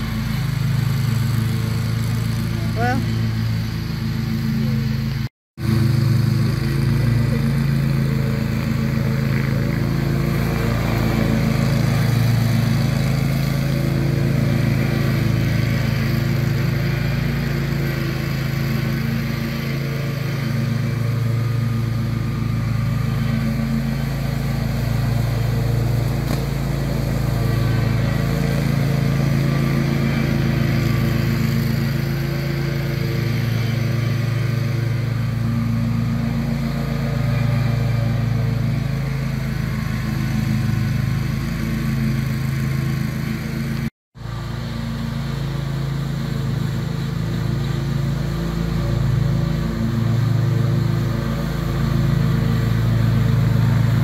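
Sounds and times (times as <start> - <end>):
riding mower engine cutting grass: 0.0 - 54.0.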